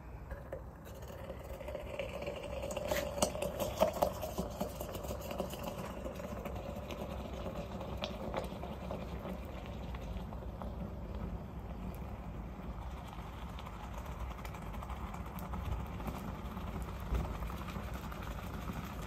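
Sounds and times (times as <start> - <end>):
flames hissing and crackling: 0.8 - 19.0.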